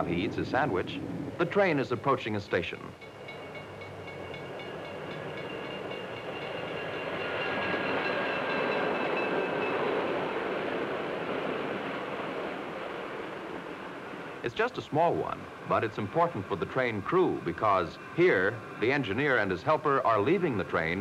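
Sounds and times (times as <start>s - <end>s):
passenger train rumbling past: 0.0s - 21.0s.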